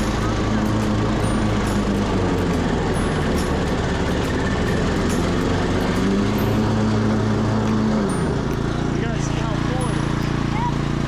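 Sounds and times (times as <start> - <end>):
riding lawn mower engine: 0.0 - 11.0.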